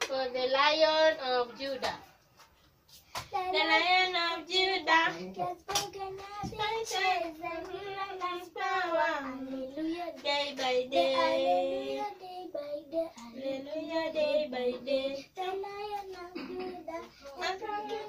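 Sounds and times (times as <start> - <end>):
child singing: 3.3 - 18.0.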